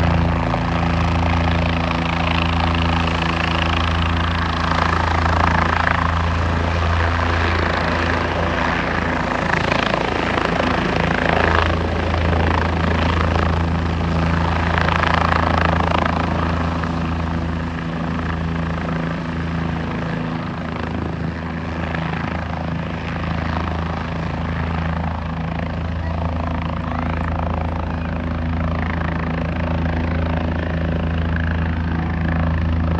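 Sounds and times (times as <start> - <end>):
helicopter rotor hum: 0.0 - 32.9.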